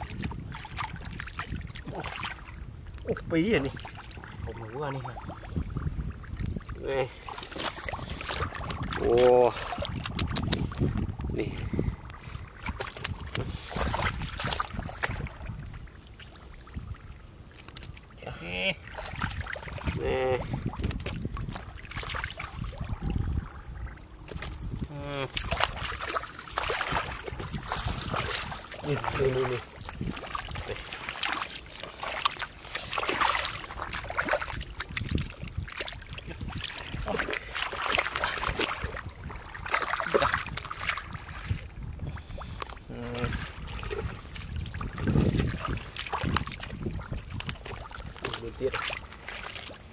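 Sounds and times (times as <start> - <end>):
splashing in muddy water: 0.0 - 49.9
squelching and sloshing in wet mud: 0.0 - 49.9.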